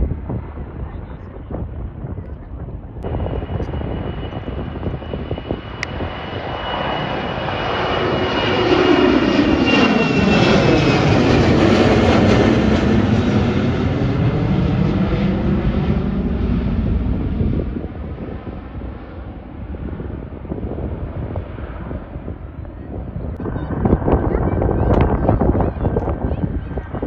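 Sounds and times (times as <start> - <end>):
jet airliner passing overhead: 0.0 - 27.0.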